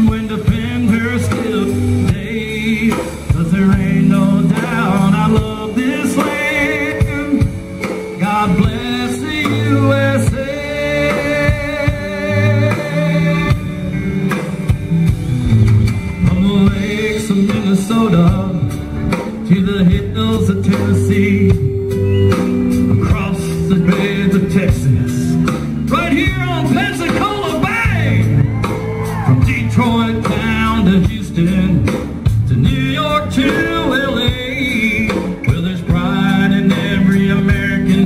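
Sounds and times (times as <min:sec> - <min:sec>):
man singing: 0:00.0 - 0:14.0, 0:16.1 - 0:38.0
live country band playing: 0:00.0 - 0:38.0.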